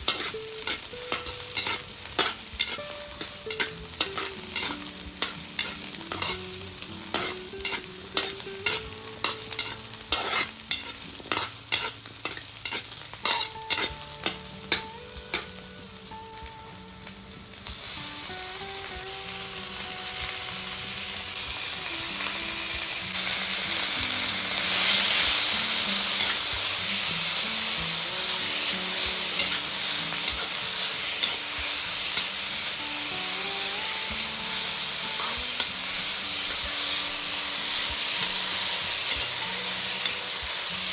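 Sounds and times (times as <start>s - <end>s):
spatula scraping a pan: 0.0s - 15.5s, 21.2s - 40.9s
food sizzling: 0.0s - 40.9s.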